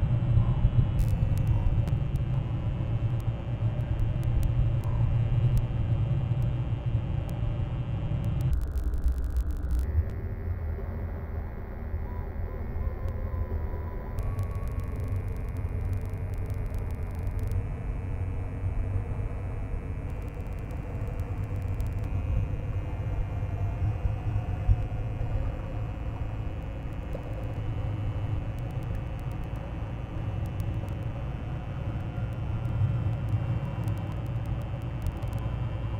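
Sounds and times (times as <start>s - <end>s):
low outdoor rumble: 0.0s - 35.9s.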